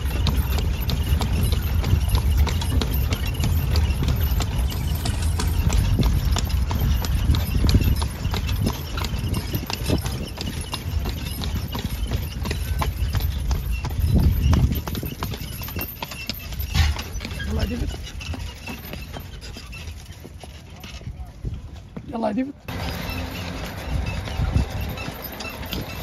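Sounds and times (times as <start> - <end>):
horse hooves clip-clopping on pavement: 0.0 - 26.0.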